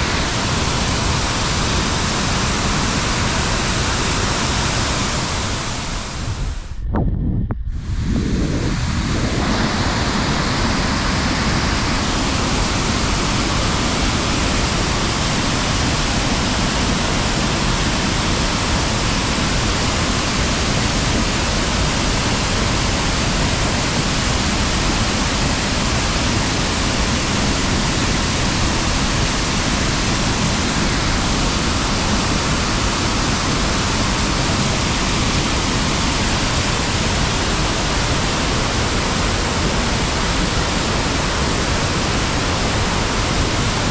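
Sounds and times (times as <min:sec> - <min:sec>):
stream rushing: 0:00.0 - 0:43.9.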